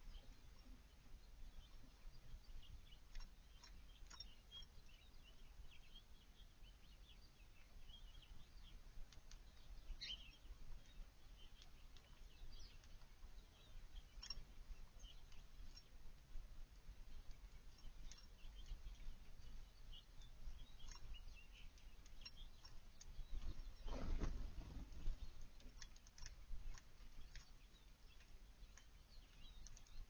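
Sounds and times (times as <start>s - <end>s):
small songbirds chirping: 0.0s - 30.0s.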